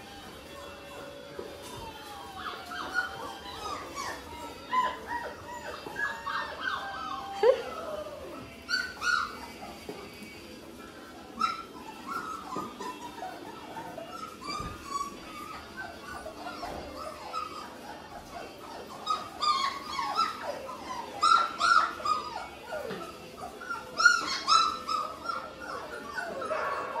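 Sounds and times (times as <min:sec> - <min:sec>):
puppies whining and yipping: 0:00.0 - 0:27.0.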